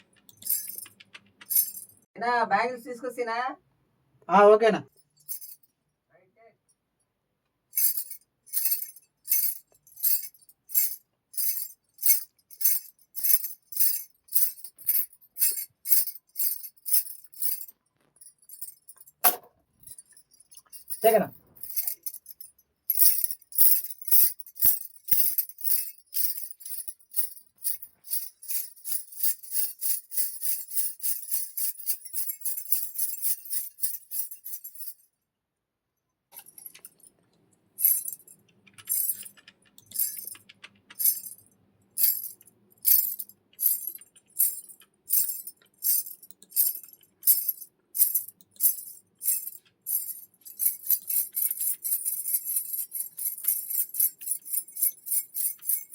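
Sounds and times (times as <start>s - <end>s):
bangles jingling: 0.0s - 2.1s, 4.9s - 5.8s, 7.7s - 35.1s, 36.3s - 37.2s, 37.8s - 55.9s.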